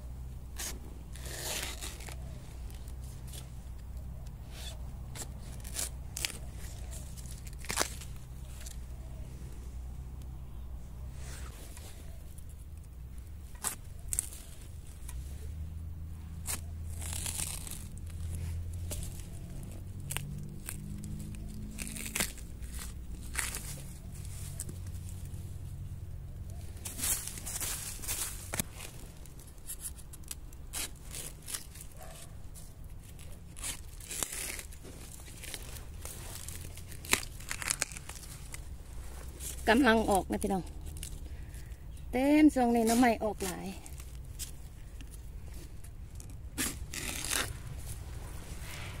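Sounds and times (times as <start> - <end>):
low steady rumble: 0.0 - 49.0
dry leaves crackling: 0.6 - 9.8, 10.5 - 49.0.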